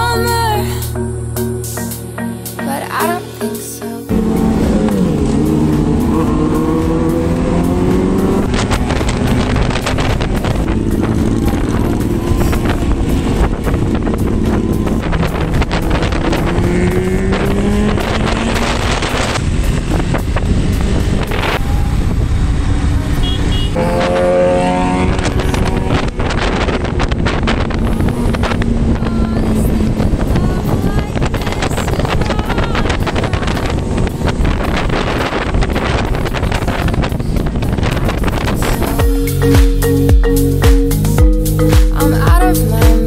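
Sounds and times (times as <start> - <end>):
motorcycle engine accelerating: 4.1 - 41.3
wind noise on microphone: 4.1 - 43.0.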